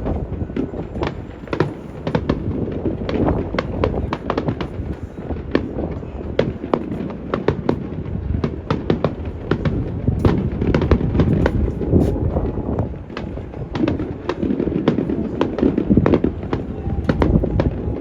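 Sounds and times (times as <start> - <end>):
fireworks cracking and popping: 0.0 - 18.0
wind buffeting microphone: 0.0 - 18.0.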